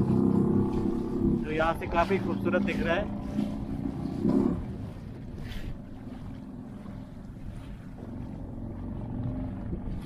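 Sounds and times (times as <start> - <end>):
motorboat engine running: 0.0 - 10.0
wind on microphone: 0.0 - 10.0.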